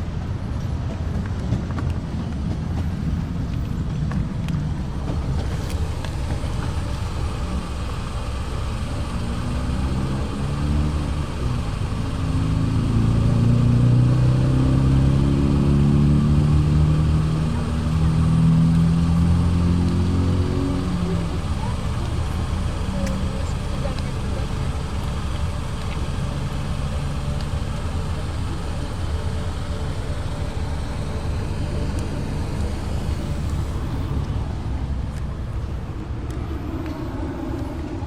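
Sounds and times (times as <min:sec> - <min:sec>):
car engine rumbling: 0:00.0 - 0:38.0.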